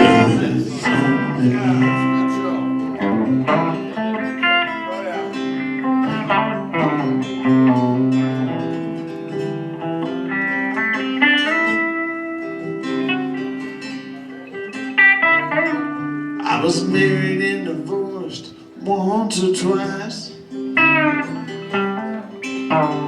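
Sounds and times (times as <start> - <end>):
country band playing: 0.0 - 23.0
lead guitar: 0.0 - 23.0.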